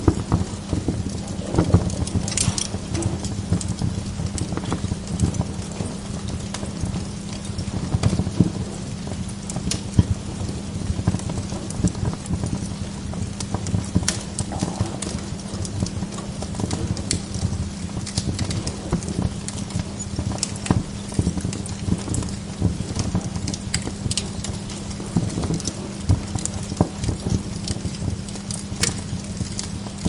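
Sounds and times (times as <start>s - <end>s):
log fire crackling and popping: 0.0s - 30.0s
low steady rumble: 0.0s - 30.0s.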